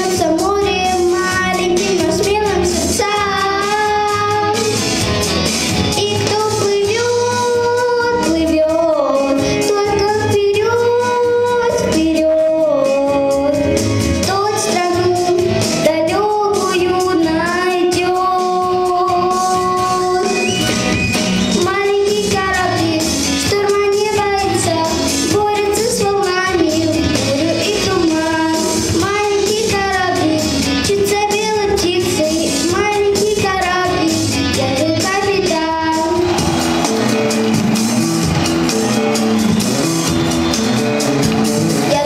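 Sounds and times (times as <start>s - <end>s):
girl singing into microphone: 0.0s - 5.0s, 5.9s - 20.5s, 21.5s - 36.2s
instrumental accompaniment: 0.0s - 42.0s.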